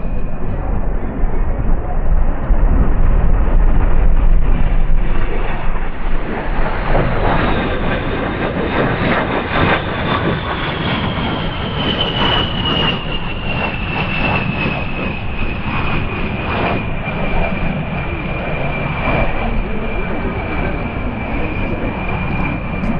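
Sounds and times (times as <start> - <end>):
jet engine whine: 0.0 - 22.9.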